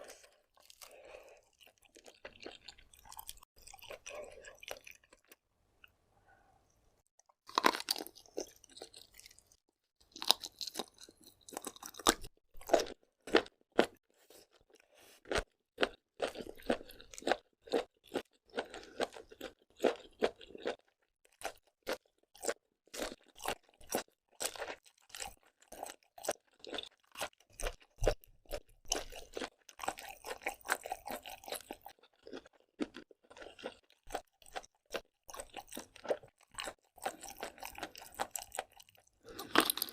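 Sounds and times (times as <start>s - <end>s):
crunching and wet chewing: 0.0s - 5.4s, 7.2s - 39.9s.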